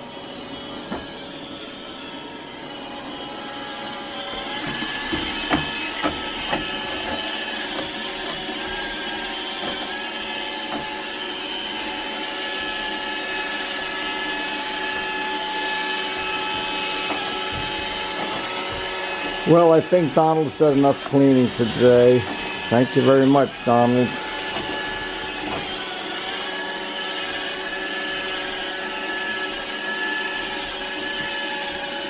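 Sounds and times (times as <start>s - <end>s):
robot vacuum cleaner whirring: 0.0s - 32.0s.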